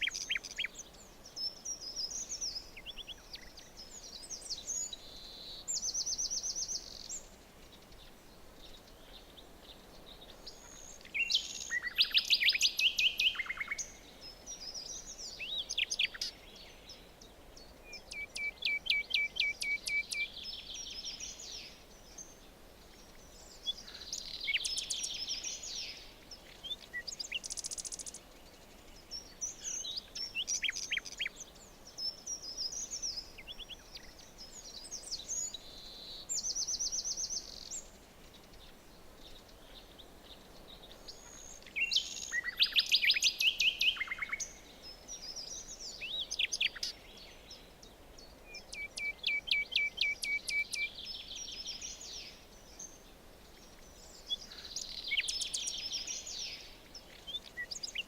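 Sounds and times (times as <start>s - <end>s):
faint steady hiss: 0.0s - 58.0s
songbirds singing and calling: 0.0s - 58.0s.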